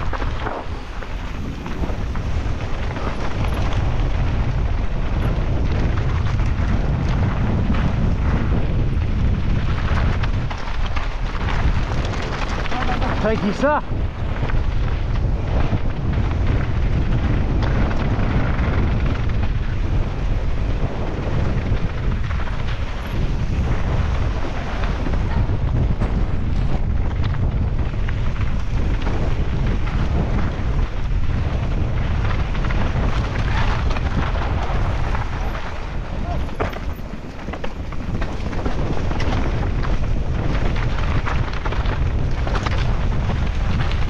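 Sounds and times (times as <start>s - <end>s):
bike tyres rattling on rough ground: 0.0s - 44.0s
wind on microphone: 0.0s - 44.0s.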